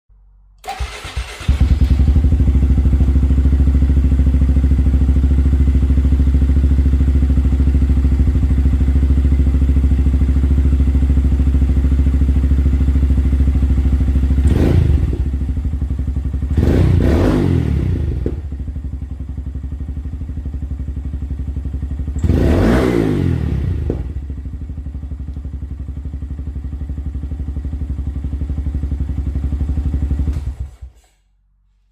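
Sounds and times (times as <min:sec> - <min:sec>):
motorcycle engine idling and revving: 0:00.6 - 0:31.1.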